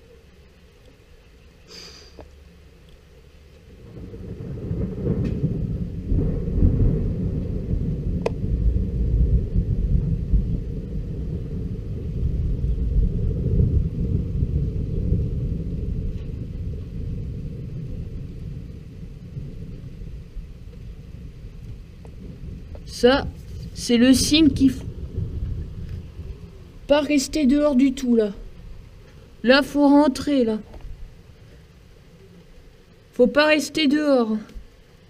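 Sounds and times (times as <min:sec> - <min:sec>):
rolling thunder rumble: 0:03.3 - 0:35.0.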